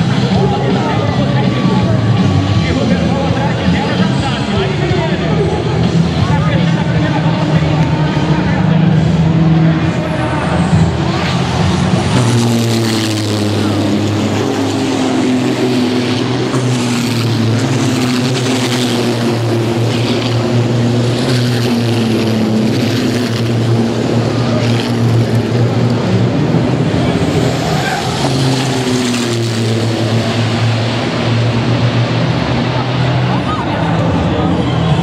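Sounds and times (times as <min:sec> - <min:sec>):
racing truck diesel engines: 0:00.0 - 0:35.0.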